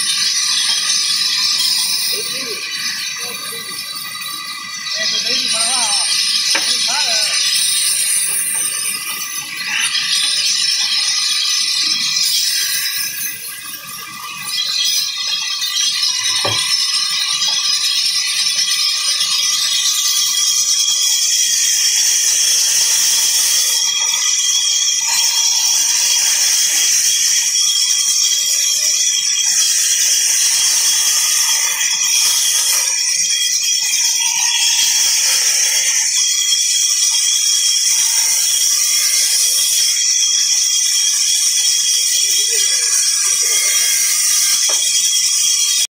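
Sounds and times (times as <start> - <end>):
band saw cutting wood: 0.0 - 13.8, 14.5 - 18.1, 21.1 - 45.9.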